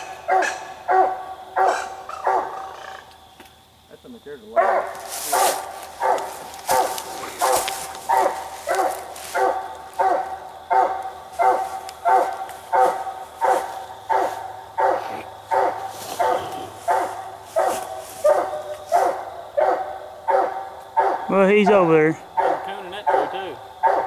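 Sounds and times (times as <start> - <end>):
hound barking: 0.0 - 3.1, 4.4 - 24.0.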